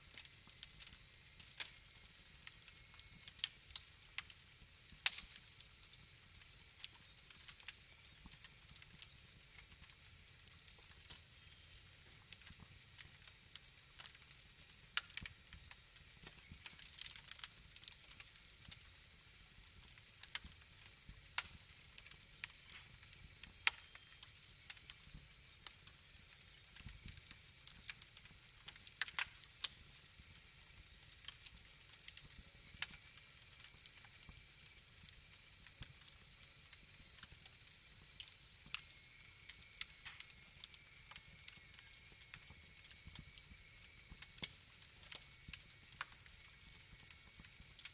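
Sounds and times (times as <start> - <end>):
soft hiss: 0.0 - 47.9
wood fire crackling and popping: 0.0 - 47.9.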